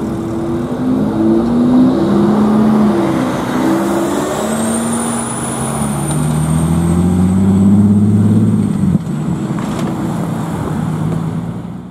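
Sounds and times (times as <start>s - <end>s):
diesel truck engine pulling away: 0.0s - 11.9s.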